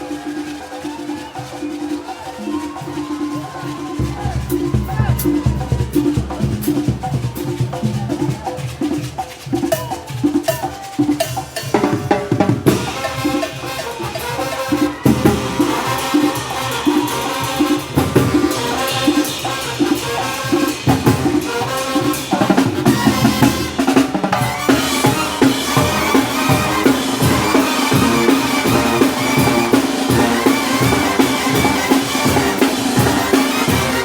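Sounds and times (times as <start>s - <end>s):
brass band playing: 0.0s - 8.9s, 11.2s - 34.0s.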